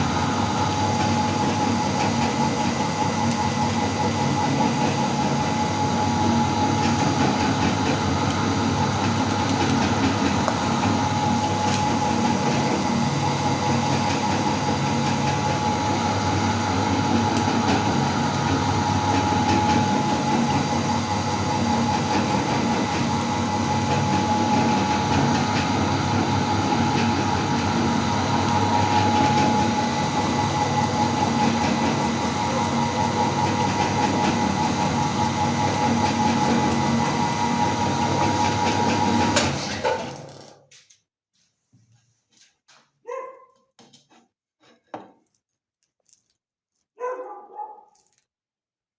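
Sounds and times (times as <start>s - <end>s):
meat grinder running: 0.0s - 40.6s.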